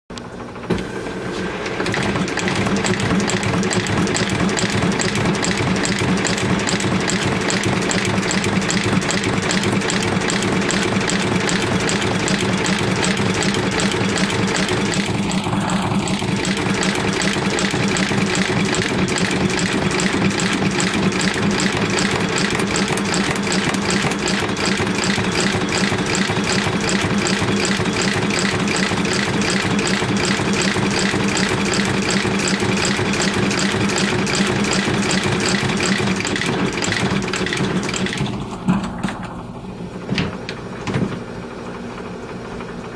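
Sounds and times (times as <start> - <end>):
sole stitching machine running: 0.2 - 39.5.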